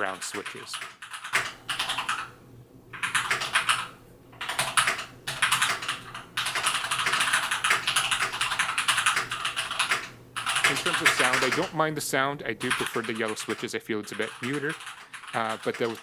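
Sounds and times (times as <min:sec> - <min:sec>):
fast typing on mechanical keyboard: 0:00.0 - 0:02.3, 0:02.9 - 0:11.7, 0:12.6 - 0:16.0.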